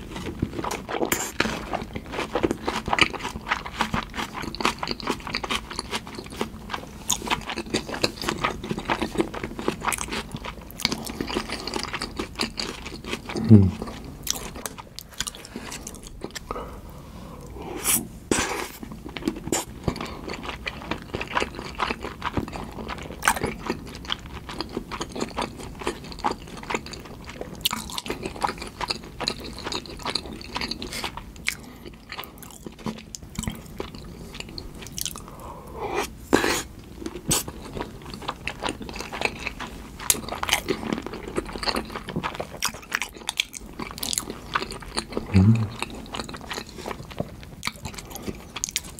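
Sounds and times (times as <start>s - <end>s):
chewing with wet mouth sounds: 0.0s - 17.6s, 18.3s - 48.9s.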